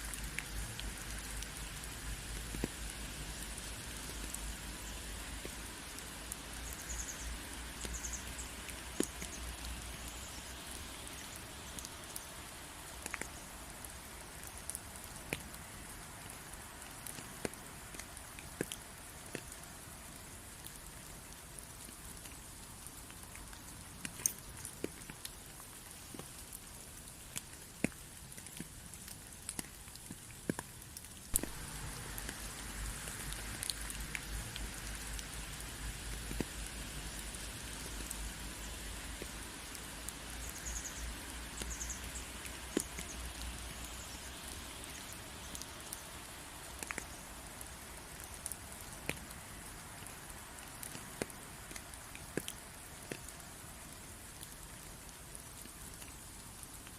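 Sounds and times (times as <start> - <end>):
raindrops ticking on a surface: 0.0 - 56.9
steady rain falling: 0.0 - 56.9.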